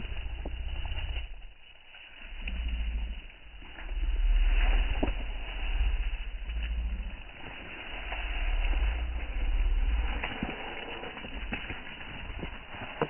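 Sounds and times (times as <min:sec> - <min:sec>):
faint clicks: 0:00.0 - 0:13.0.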